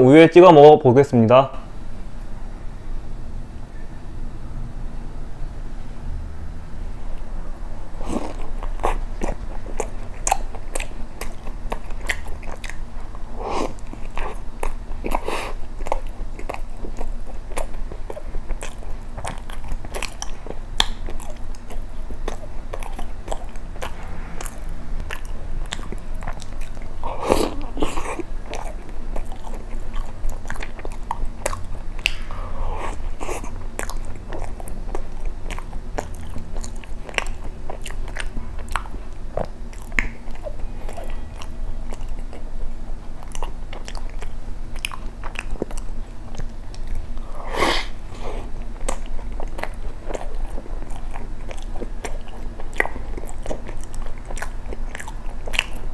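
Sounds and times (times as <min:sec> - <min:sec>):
wet biting and chewing: 0:07.9 - 0:55.9.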